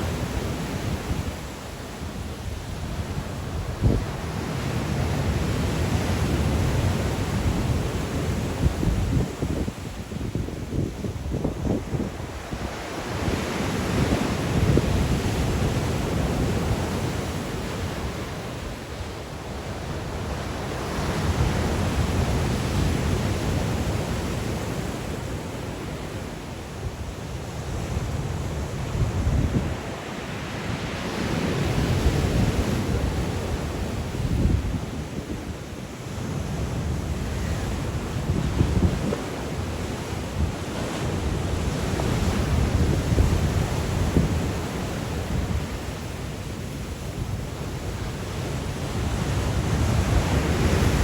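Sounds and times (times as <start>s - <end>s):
wind buffeting microphone: 0.0s - 25.0s, 26.9s - 51.0s
waves breaking ashore: 0.0s - 51.0s.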